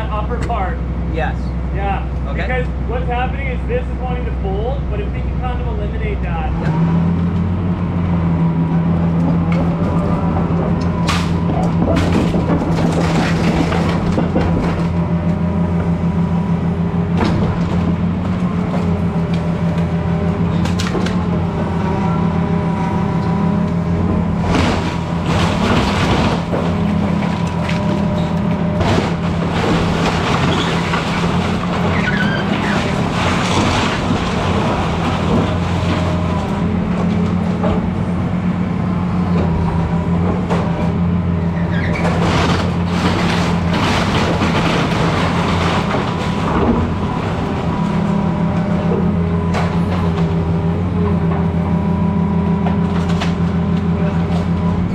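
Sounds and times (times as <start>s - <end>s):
excavator diesel engine: 0.0s - 54.9s
wood cracking and crashing: 9.1s - 38.3s, 39.1s - 51.8s, 52.5s - 54.9s.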